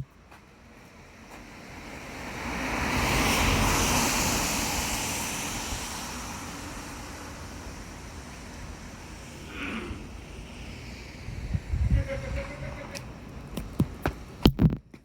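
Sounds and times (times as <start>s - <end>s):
tyres hissing on wet road: 1.0s - 13.5s.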